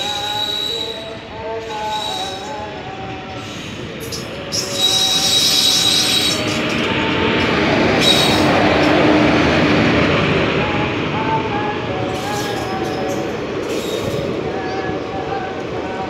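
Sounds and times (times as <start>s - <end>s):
train wheels rattling on rail: 0.0s - 16.0s.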